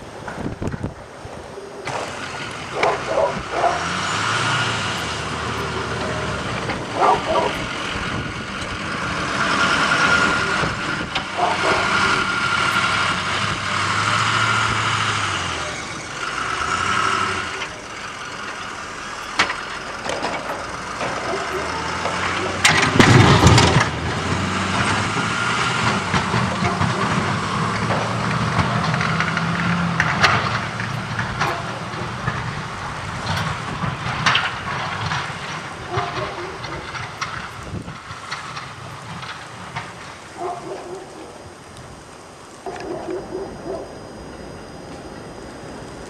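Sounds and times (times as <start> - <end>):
truck driving by: 1.8 - 41.0.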